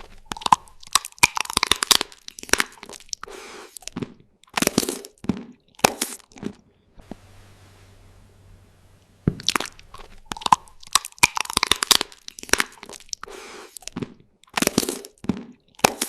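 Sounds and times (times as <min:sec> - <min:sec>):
crunchy food being chewed: 0:00.0 - 0:06.8, 0:09.4 - 0:16.0.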